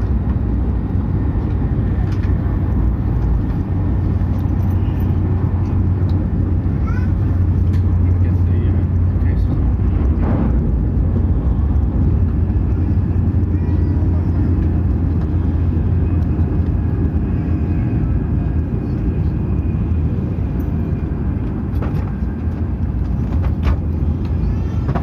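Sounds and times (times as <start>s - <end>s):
train rumbling at speed: 0.0s - 25.0s.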